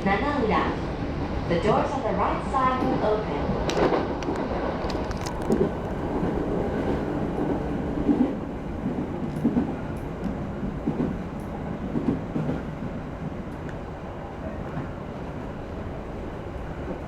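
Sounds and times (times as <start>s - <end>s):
train wheel rumble: 0.0s - 17.0s.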